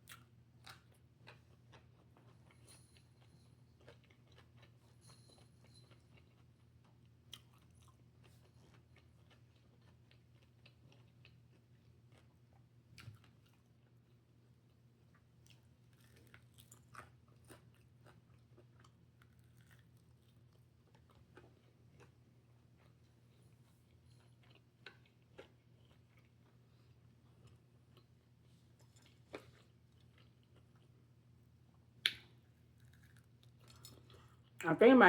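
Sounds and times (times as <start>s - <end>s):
person chewing food: 0.0s - 31.3s, 32.0s - 34.6s.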